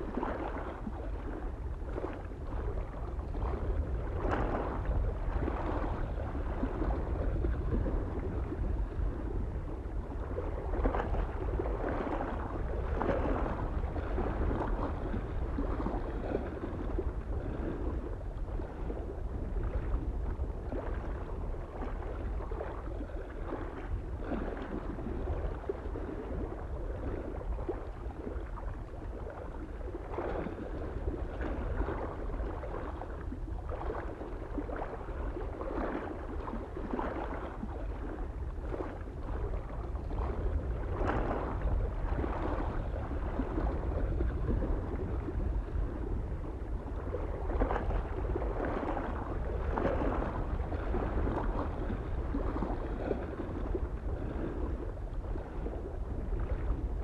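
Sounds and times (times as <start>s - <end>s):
small waves lapping on shore: 0.0s - 57.0s
wind rumble on microphone: 0.0s - 57.0s.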